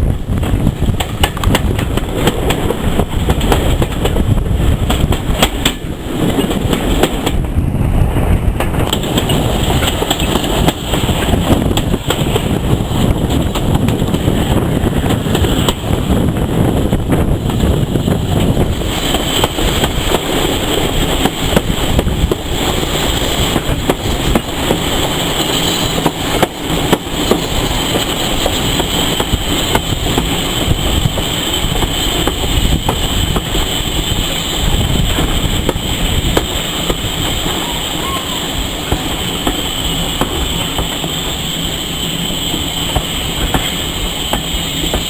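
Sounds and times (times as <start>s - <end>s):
train rumbling on track: 0.0s - 45.0s
wheels clicking and knocking: 0.3s - 7.6s, 8.3s - 37.6s.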